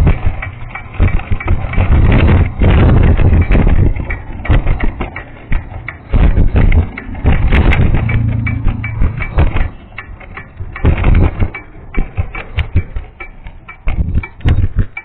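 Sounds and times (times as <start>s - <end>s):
vehicle rumbling on punctured tyre: 0.0s - 15.0s.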